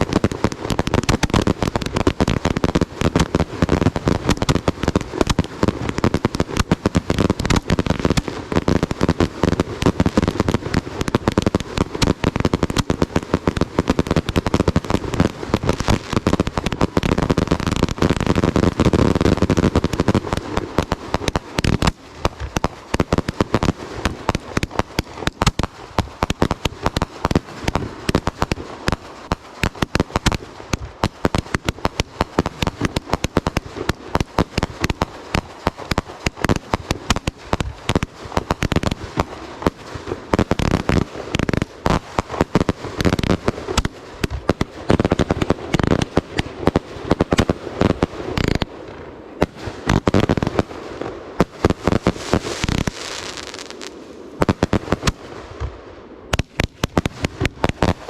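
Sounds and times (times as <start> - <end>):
fireworks bangs and crackling pops: 0.0 - 58.0.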